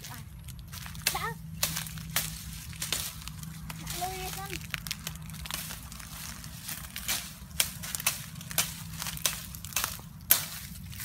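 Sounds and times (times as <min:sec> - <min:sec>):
dry earth crunching and cracking: 0:00.0 - 0:11.0.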